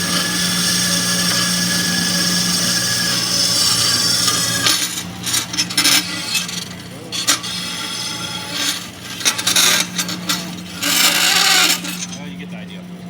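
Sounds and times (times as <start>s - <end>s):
saw blade rasping through steel: 0.0s - 12.4s
band saw motor hum: 0.0s - 13.0s.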